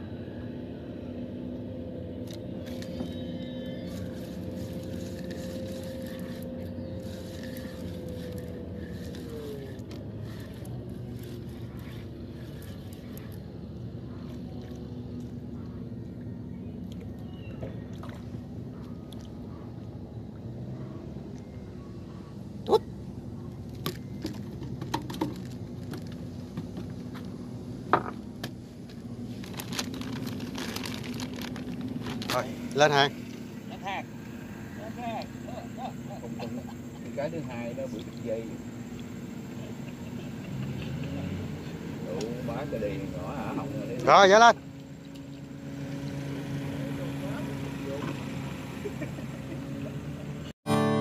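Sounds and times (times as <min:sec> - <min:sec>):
boat engine droning: 0:00.0 - 0:51.0
low motor hum: 0:00.0 - 0:51.0.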